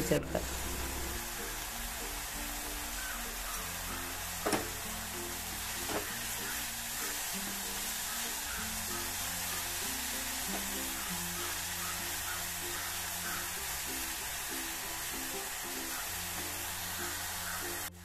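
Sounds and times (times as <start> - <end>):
background music with low notes: 0.0 - 18.0
food sizzling in a pan: 0.0 - 18.0.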